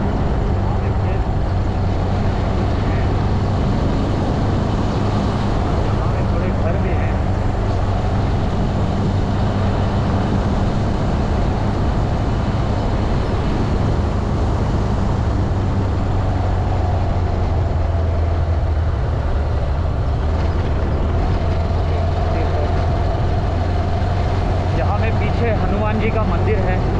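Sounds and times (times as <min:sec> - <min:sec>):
motorcycle engine cruising: 0:00.0 - 0:26.9
wind and road noise: 0:00.0 - 0:26.9.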